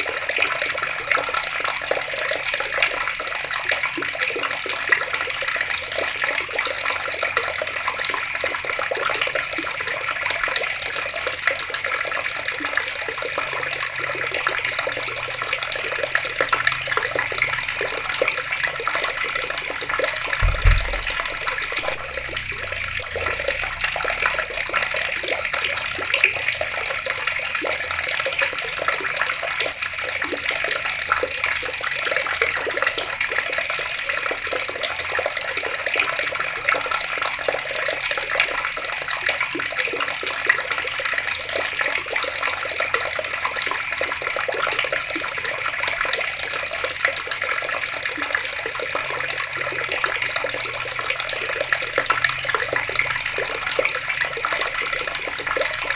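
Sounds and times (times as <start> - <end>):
water running from outdoor tap: 0.0 - 55.9.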